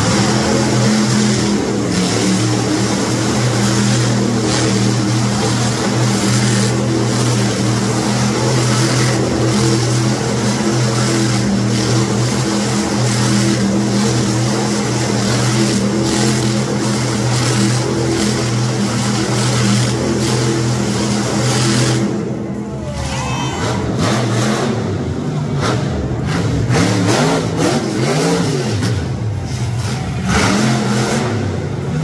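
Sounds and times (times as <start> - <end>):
truck engine at high revs: 0.0 - 32.0.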